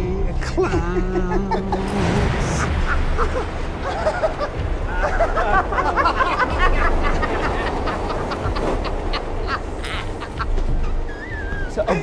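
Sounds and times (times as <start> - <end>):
men laughing loudly: 0.3 - 12.0.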